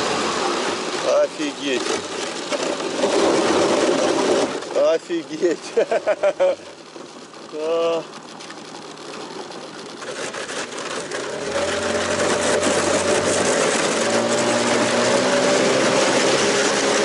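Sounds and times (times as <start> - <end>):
outboard motor running: 0.0 - 17.0
rushing water hiss: 0.0 - 17.0.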